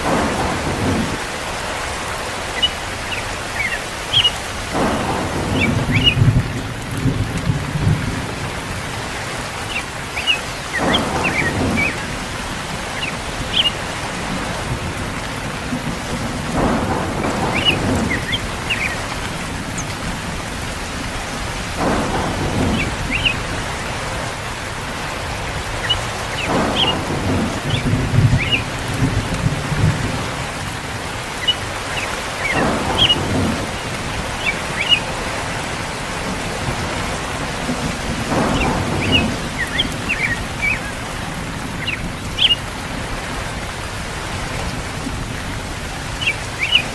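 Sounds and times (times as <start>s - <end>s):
heavy rain: 0.0s - 46.9s
thunder rumbling: 0.0s - 46.9s.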